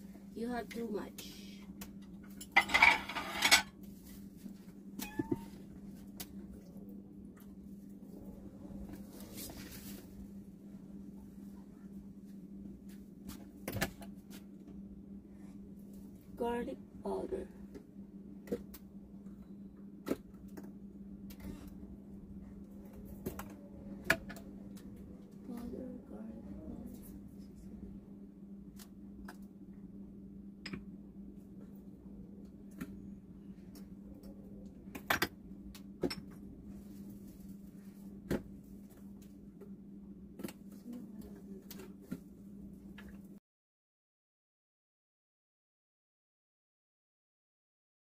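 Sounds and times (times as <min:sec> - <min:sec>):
steady low hum: 0:00.0 - 0:43.4.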